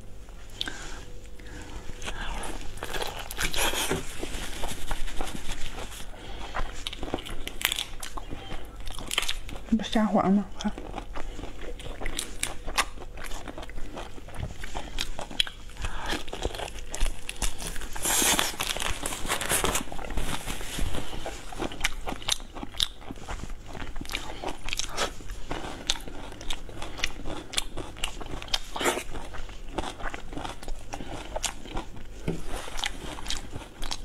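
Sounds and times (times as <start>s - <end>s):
chewing and crunching shrimp shells: 0.6s - 34.0s.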